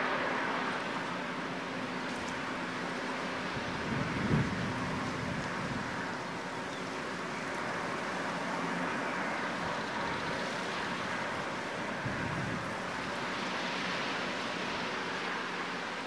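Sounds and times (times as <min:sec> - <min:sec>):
turbine and waterjet rushing: 0:00.0 - 0:16.0.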